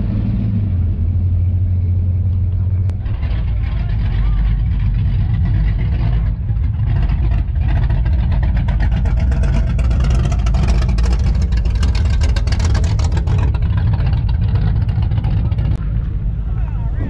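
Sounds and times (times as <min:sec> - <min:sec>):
car engine rumbling past: 0:00.0 - 0:17.0.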